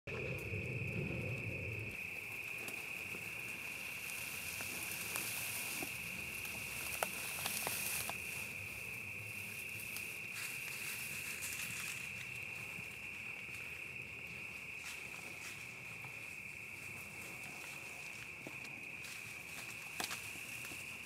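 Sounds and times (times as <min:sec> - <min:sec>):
high insect drone: 0:00.1 - 0:21.0
faint clicks and rustles: 0:00.2 - 0:21.0.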